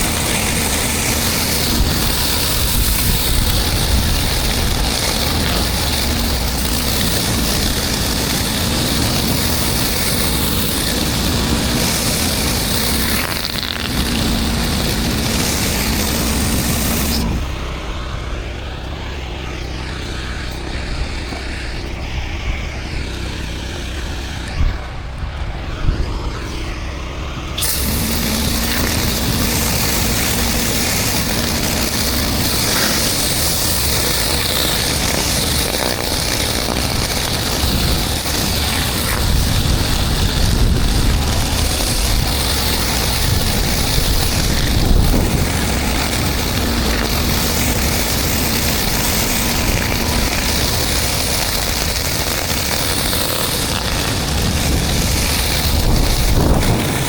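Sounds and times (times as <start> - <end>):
pressure washer low hum: 0.0 - 57.0
pressure washer spray on concrete: 0.0 - 57.0.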